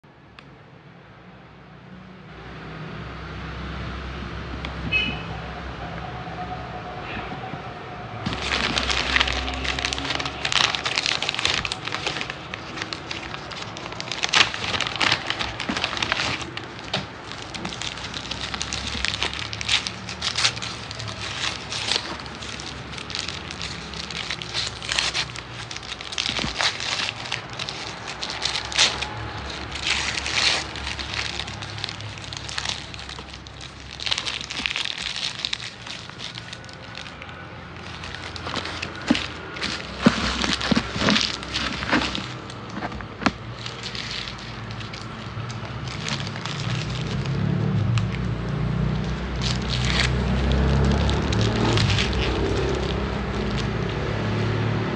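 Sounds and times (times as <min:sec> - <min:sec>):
paper wrapping crinkling and tearing: 0:08.1 - 0:54.9.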